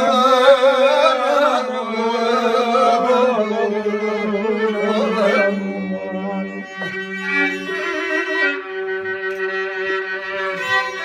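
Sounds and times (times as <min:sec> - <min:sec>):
low drone: 0:00.0 - 0:10.6
wavering melody with vibrato: 0:00.0 - 0:10.7.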